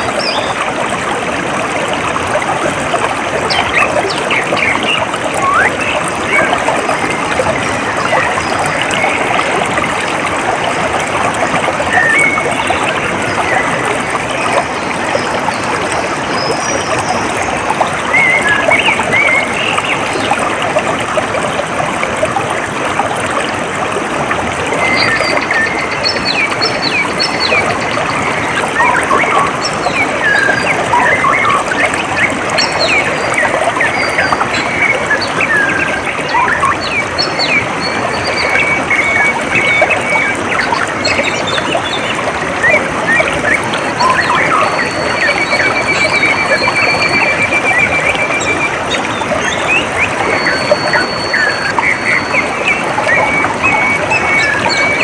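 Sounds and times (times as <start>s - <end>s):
babbling water: 0.0s - 55.0s.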